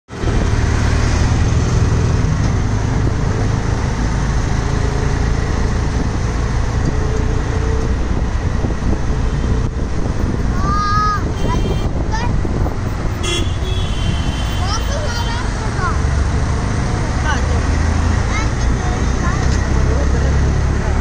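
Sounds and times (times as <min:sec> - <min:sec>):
cars and motorcycles passing: 0:00.1 - 0:21.0.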